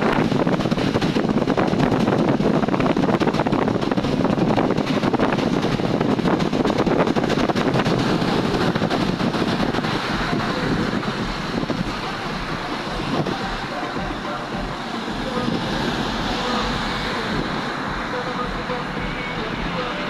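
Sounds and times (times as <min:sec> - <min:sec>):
road vehicle noise: 0:00.0 - 0:20.0
wind buffeting microphone: 0:00.0 - 0:20.0.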